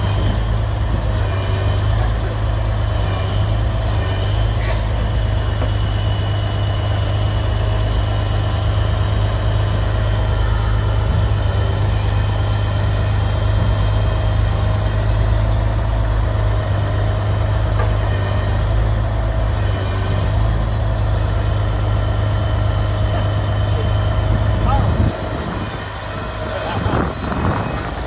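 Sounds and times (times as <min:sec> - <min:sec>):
diesel engine droning: 0:00.0 - 0:28.0
hydraulic whine: 0:00.0 - 0:28.0.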